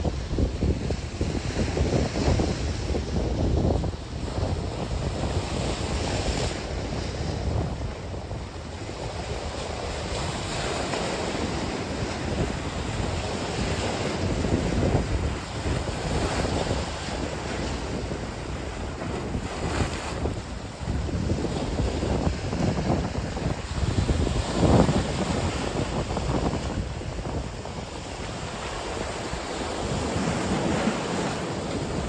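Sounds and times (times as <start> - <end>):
ocean surf: 0.0 - 32.0
wind buffeting microphone: 0.0 - 32.0.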